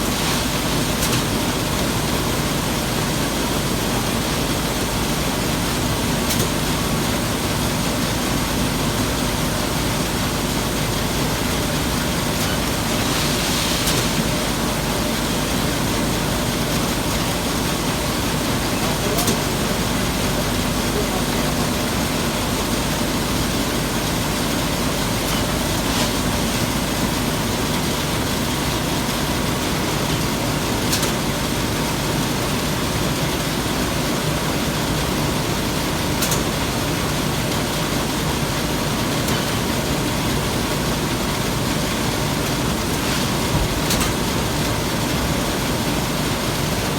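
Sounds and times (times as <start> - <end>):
packaging machine running: 0.0 - 46.9.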